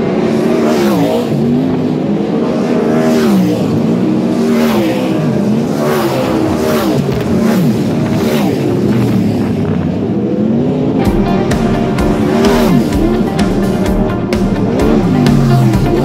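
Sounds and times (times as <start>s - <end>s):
race cars passing at full throttle: 0.0s - 16.0s.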